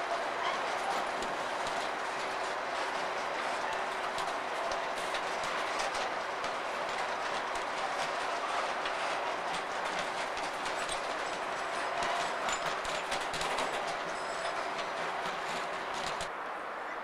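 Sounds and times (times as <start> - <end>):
train wheels clicking on rail joints: 0.0 - 16.3
train rolling rumble: 0.0 - 16.9.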